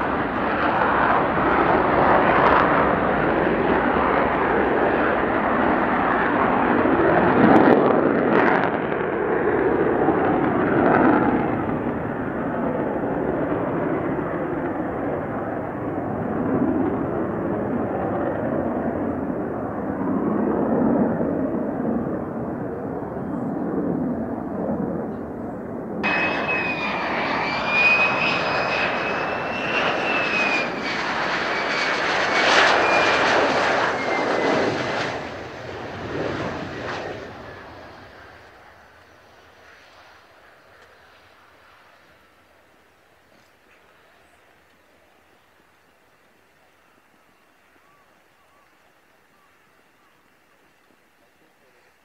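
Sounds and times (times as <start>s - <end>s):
jet engine high whine: 0.0s - 52.0s
jet engine rumble: 0.0s - 52.0s.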